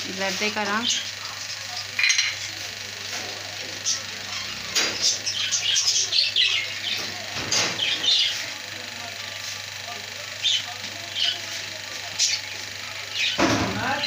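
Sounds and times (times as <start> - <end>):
small birds chirping: 0.1 - 14.0.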